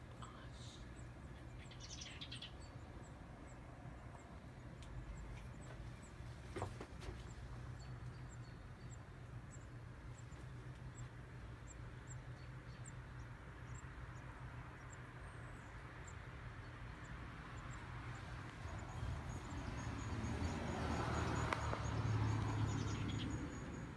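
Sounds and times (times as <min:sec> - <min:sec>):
birds chirping high: 0:00.1 - 0:23.9.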